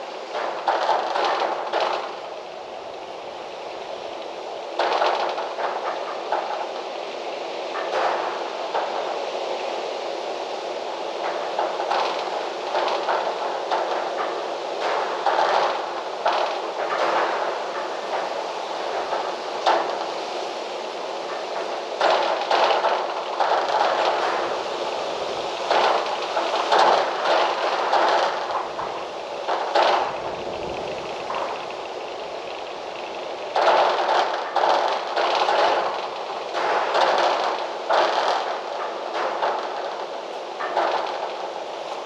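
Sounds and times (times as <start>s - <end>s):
strong gusty wind: 0.0s - 42.0s.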